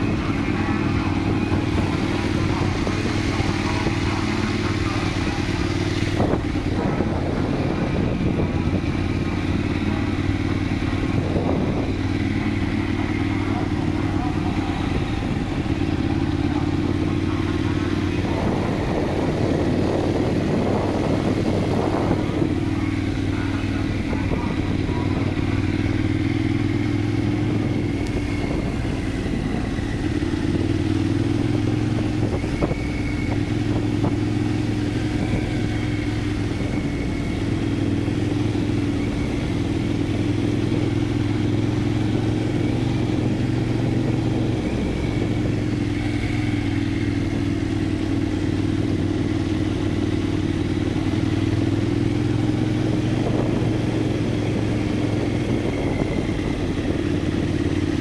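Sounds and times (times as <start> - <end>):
motorcycle engine running: 0.0 - 58.0
rough rushing noise: 0.0 - 58.0.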